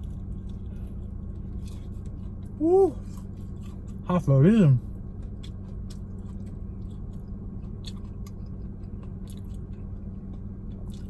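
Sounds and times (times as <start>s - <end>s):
car air conditioning hum: 0.0s - 11.0s
chewing crispy chicken: 0.0s - 11.0s.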